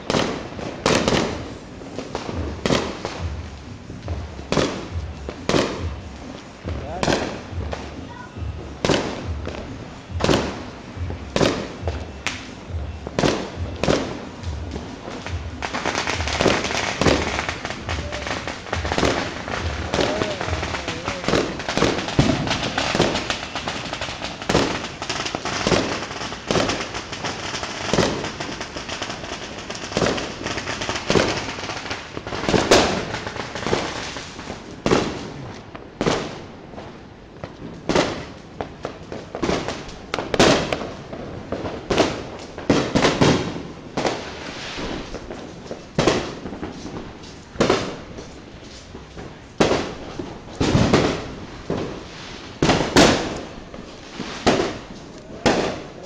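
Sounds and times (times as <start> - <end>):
fireworks exploding with echo: 0.0 - 56.0.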